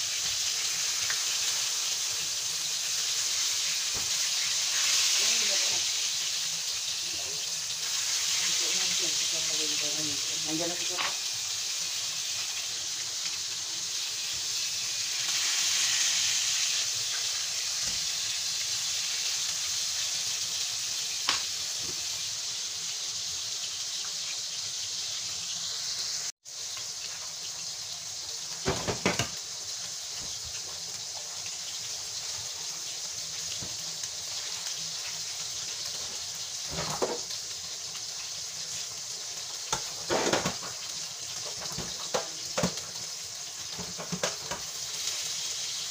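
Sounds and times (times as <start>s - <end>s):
fish sizzling in hot oil: 0.0s - 45.9s.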